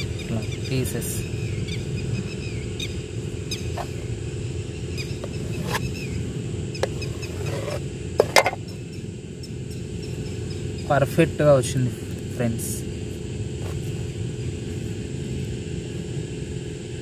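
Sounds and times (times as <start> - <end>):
high chirps of birds or insects: 0.0 - 17.0
steady low hum: 0.0 - 17.0.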